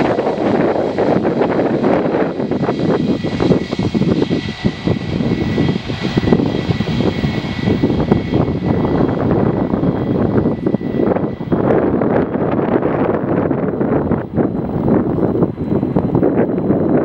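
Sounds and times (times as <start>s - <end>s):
high engine whine: 0.0s - 17.0s
jet engines rumbling: 0.0s - 17.0s.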